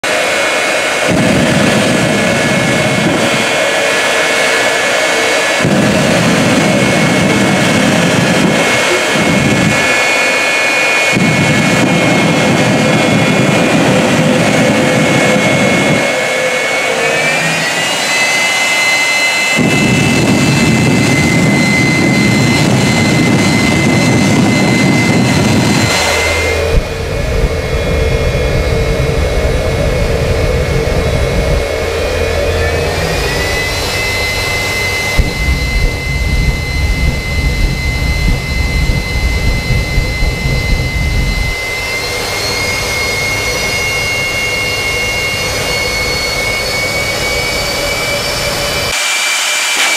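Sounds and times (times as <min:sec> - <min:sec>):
heavy low rumble: 0:00.0 - 0:48.9
jet engine roaring with whine: 0:00.0 - 0:49.9.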